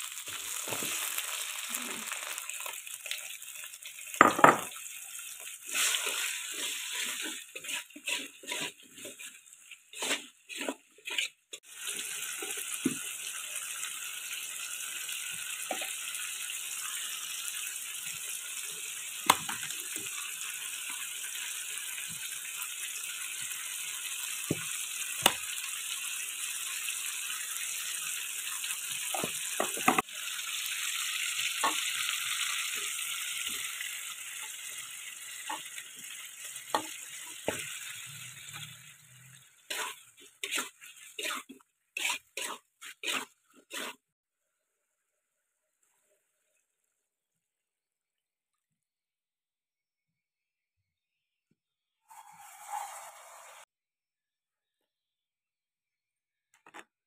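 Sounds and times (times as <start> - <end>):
tomatoes sizzling in hot oil: 0.0 - 47.0, 52.0 - 53.7.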